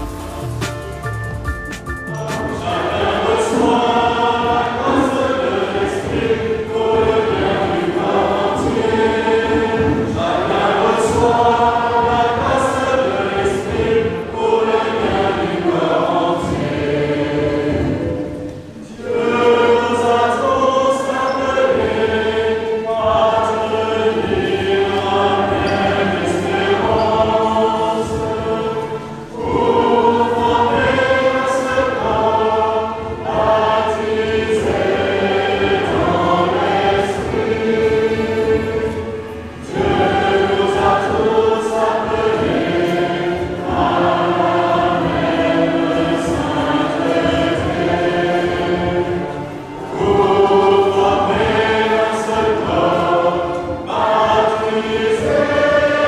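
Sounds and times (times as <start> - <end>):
choir singing sacred music: 2.1 - 56.0.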